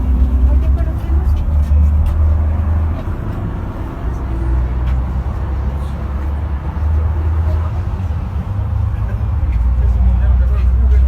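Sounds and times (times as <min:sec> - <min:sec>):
faint indistinct voices: 0:00.0 - 0:11.0
large vehicle engine rumbling: 0:00.0 - 0:11.0.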